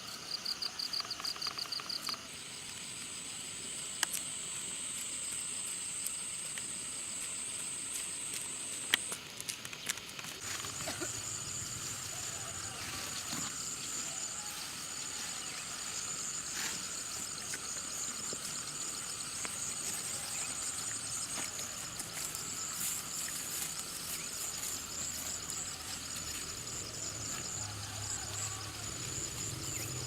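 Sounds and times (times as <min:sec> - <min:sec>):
insects shrilling: 0:04.0 - 0:30.0.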